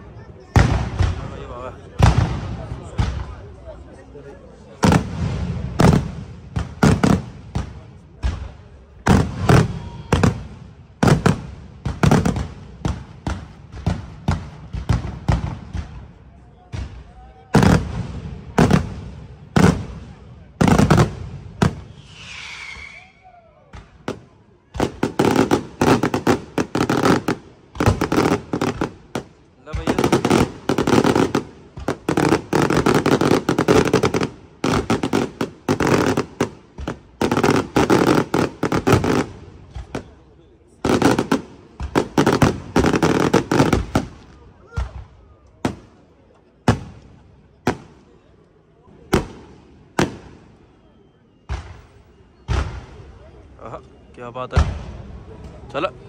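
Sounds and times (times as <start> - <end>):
fireworks bangs: 0.4 - 3.8, 4.5 - 48.2, 49.0 - 53.7, 54.4 - 55.7.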